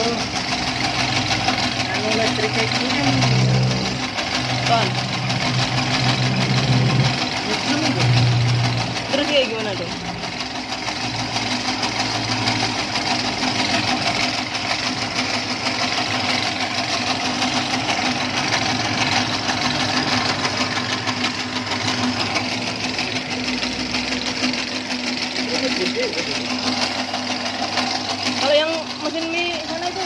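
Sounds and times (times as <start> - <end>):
electric motor humming and whirring: 0.0 - 30.0.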